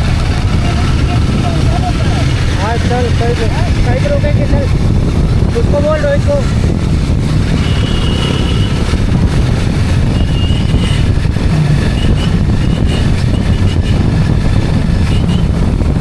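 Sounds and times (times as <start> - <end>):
motorbike engine: 0.0 - 16.0
wind buffeting microphone: 0.0 - 16.0.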